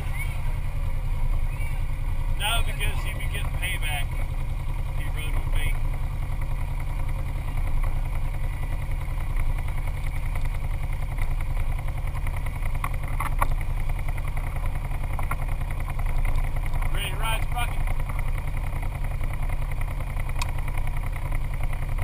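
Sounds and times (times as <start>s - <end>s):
atv engine idling: 0.0s - 22.0s.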